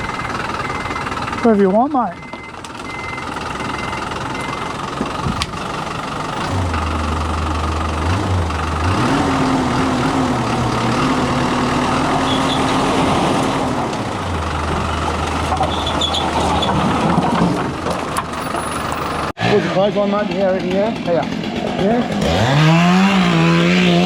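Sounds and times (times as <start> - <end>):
large engine idling and revving: 0.0 - 24.0.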